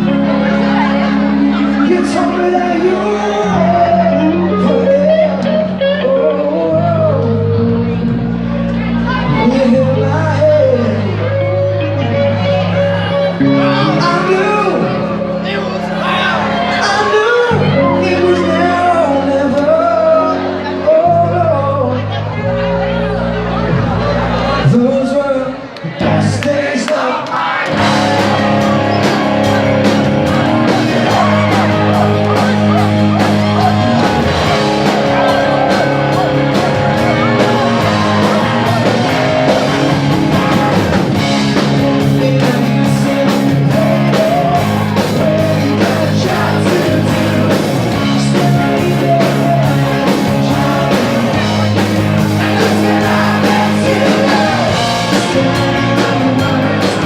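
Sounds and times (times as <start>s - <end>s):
live rock band playing: 0.0s - 26.6s, 27.6s - 57.0s.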